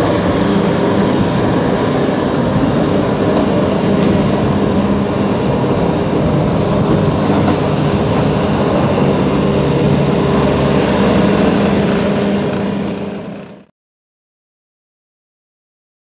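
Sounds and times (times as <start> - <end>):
diesel engine droning: 0.0 - 13.7.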